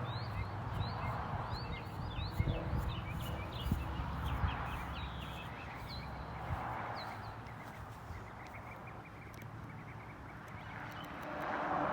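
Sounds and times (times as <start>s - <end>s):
small birds chirping: 0.0s - 11.2s
steady outdoor hiss: 0.0s - 11.9s.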